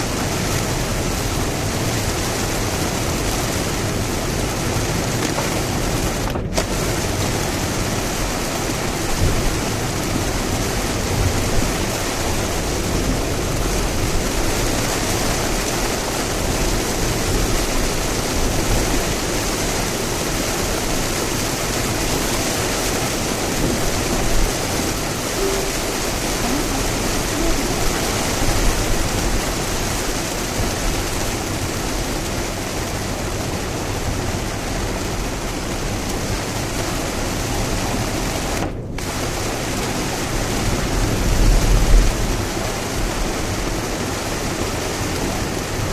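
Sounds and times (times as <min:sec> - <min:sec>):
heavy rain rushing: 0:00.0 - 0:45.9
tyre and road noise: 0:00.0 - 0:45.9.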